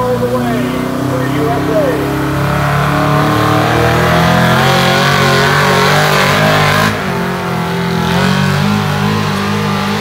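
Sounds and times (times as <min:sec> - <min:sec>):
truck engine revving hard: 0:00.0 - 0:10.0.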